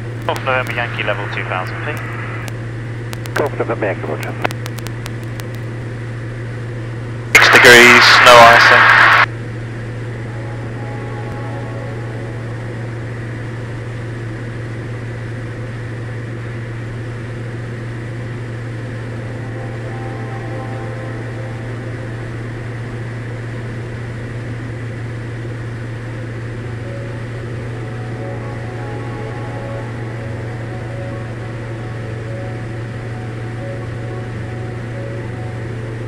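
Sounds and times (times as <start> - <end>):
aircraft engine droning: 0.0 - 36.0.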